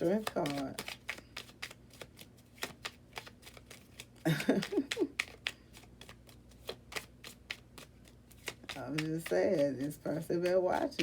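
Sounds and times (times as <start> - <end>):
cards shuffling: 0.0 - 11.0.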